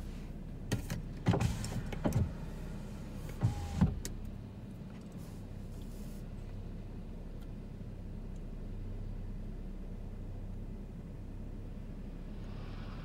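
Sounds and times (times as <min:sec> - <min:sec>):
low hum inside car: 0:00.0 - 0:13.0.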